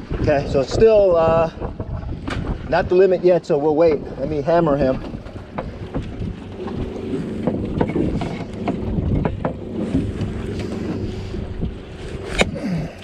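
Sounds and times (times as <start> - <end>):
boat motor running: 0.0 - 13.0
wind on microphone: 0.0 - 13.0.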